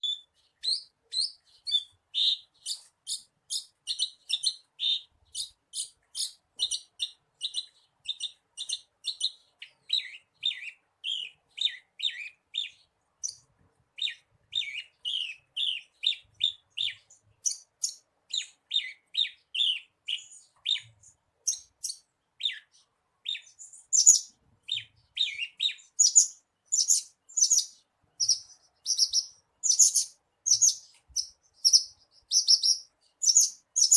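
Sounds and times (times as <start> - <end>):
bird singing quick chirps: 0.0 - 33.9.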